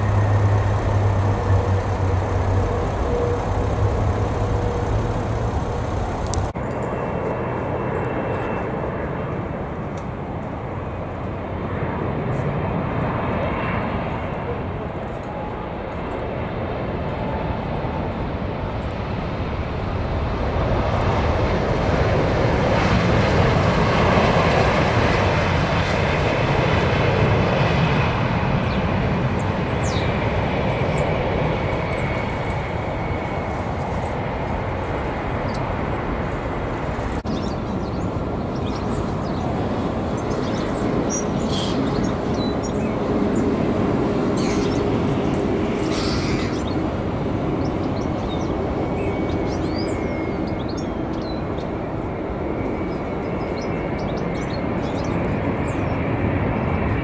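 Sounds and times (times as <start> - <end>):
jet engines roaring on landing: 0.0 - 57.0
jet noise on approach: 0.0 - 57.0.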